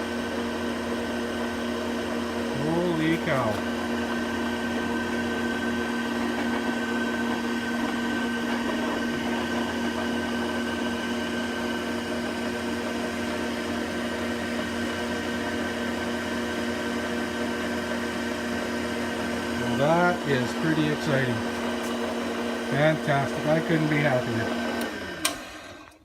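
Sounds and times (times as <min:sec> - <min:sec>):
drill press motor hum: 0:00.8 - 0:26.0.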